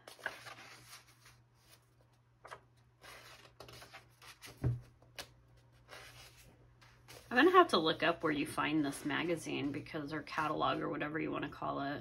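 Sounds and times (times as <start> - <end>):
book pages rustling: 0.0 - 10.8.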